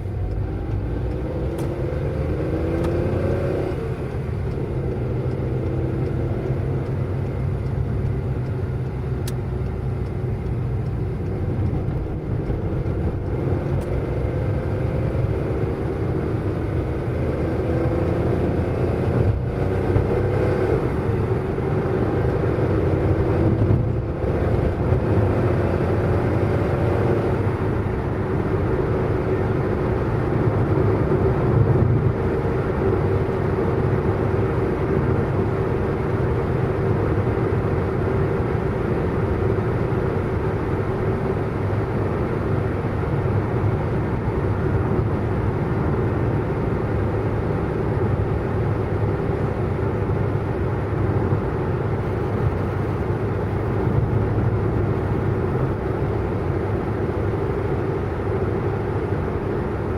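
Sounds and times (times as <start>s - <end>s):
car driving at speed: 0.0s - 59.9s.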